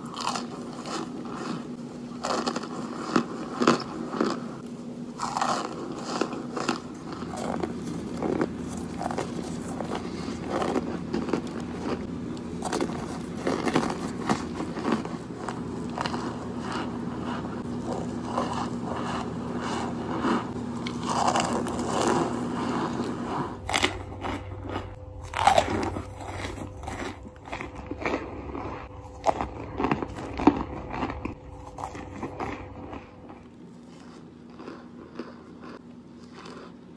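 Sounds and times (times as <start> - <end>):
crisp crunching and chewing: 0.0 - 36.9.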